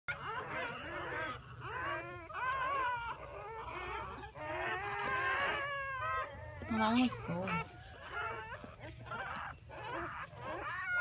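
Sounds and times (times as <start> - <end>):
puppies squealing and whimpering: 0.1 - 11.0.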